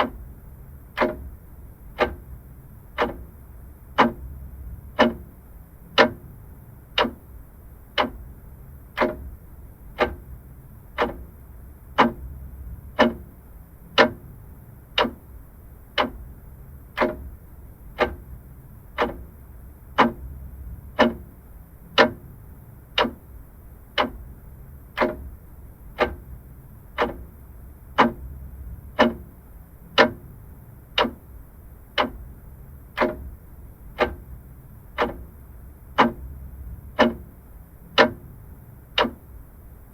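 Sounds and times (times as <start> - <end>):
clock ticking: 0.0 - 39.4
faint low hum: 0.0 - 39.9.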